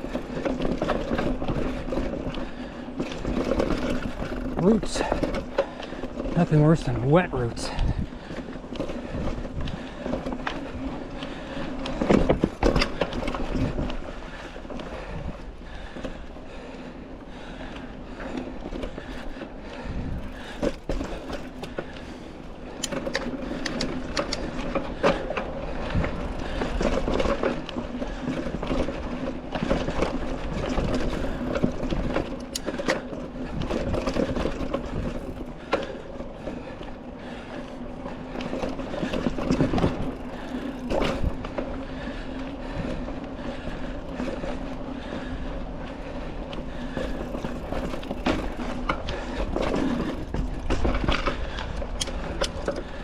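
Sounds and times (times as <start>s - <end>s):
bike knocks and rattles: 0.0s - 16.6s, 18.3s - 21.9s, 22.7s - 37.4s, 38.3s - 42.3s, 46.7s - 53.0s
bike tyres rolling on dirt: 0.0s - 53.0s.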